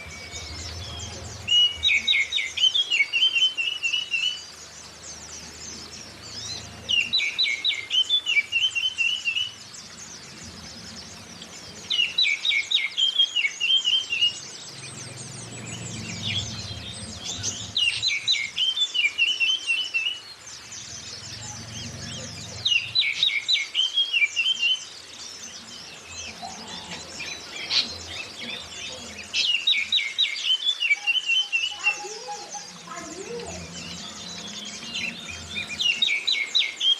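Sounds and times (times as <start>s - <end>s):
magpie-robin singing: 0.0s - 36.9s
small birds chirping: 0.0s - 36.9s.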